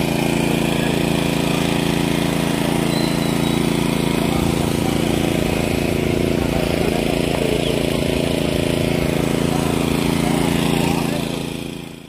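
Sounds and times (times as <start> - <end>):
engine droning hum: 0.0 - 12.0.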